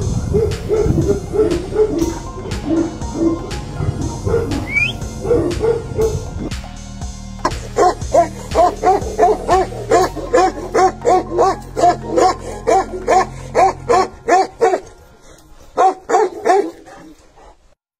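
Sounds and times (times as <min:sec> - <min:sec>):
low background music: 0:00.0 - 0:17.6
dog barking: 0:00.3 - 0:06.4, 0:07.4 - 0:15.0, 0:15.8 - 0:17.2.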